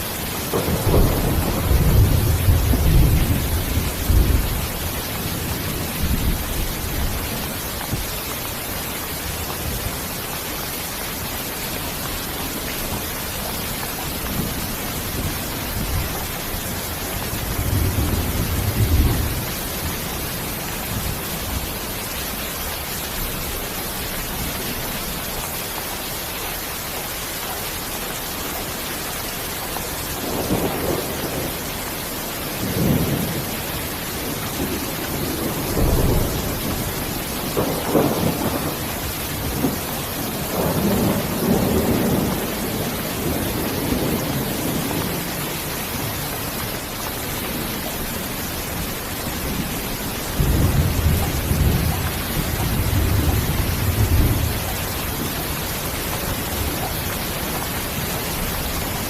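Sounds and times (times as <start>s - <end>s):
thunder rumbling: 0.0s - 25.3s, 30.2s - 59.0s
heavy rain hissing: 0.0s - 59.0s.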